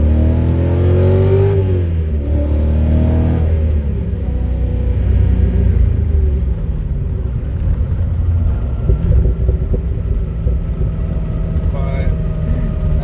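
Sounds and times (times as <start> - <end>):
car engine rumbling while driving: 0.0 - 13.0.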